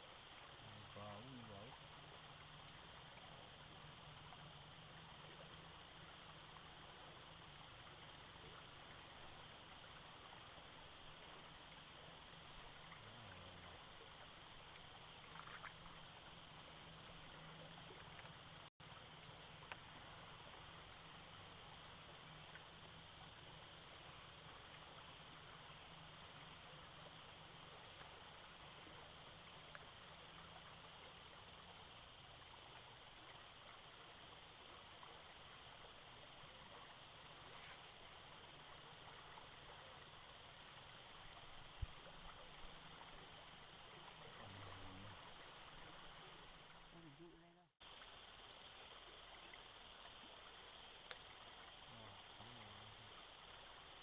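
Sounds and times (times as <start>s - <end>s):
faint outdoor ambience: 0.0s - 54.0s
high-pitched insect chorus: 0.0s - 54.0s.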